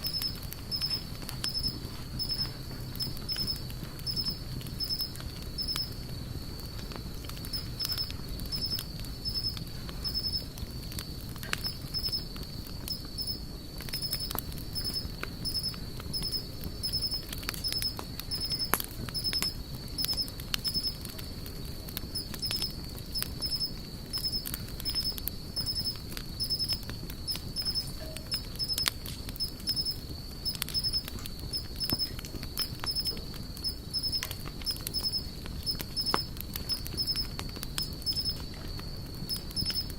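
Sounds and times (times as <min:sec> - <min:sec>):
campfire crackling and popping: 0:00.0 - 0:39.9
insect chirping: 0:00.0 - 0:39.9.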